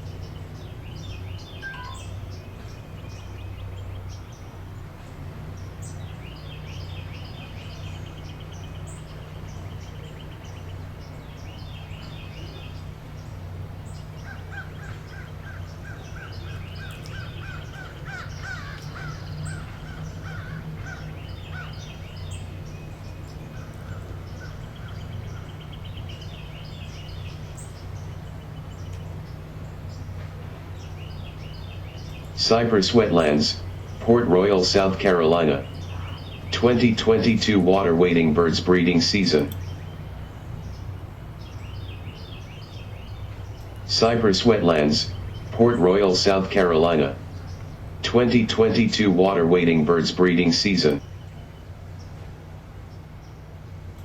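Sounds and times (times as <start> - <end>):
birds chattering calls: 0.0 - 54.0
low hum: 0.0 - 54.0.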